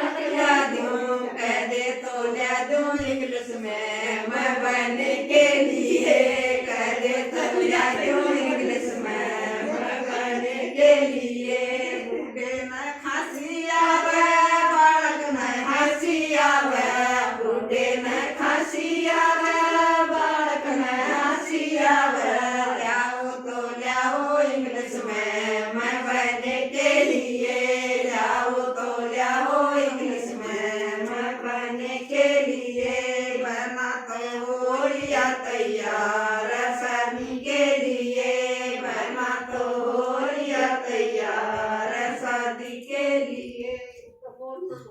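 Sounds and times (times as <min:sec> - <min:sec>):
group singing folk song: 0:00.0 - 0:44.1.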